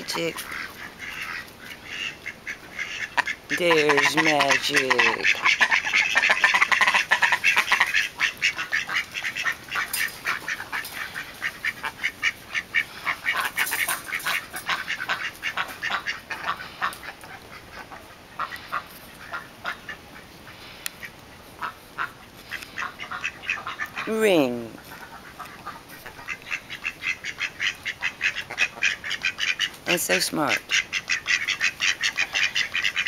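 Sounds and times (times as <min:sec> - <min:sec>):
ducks quacking: 0:00.0 - 0:33.0.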